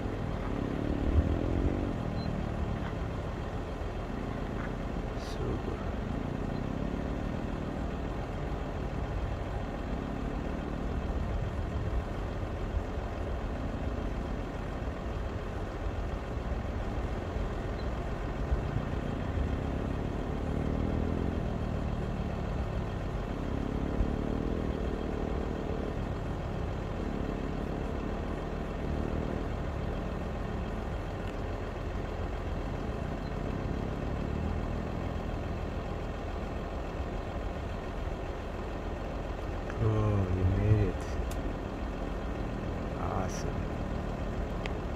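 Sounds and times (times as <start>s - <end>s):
truck engine climbing: 0.0s - 44.9s.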